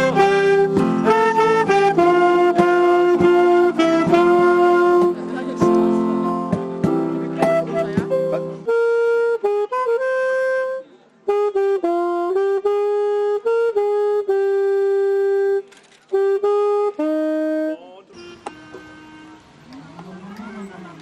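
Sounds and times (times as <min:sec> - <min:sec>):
saxophone slow melody: 0:00.0 - 0:19.8.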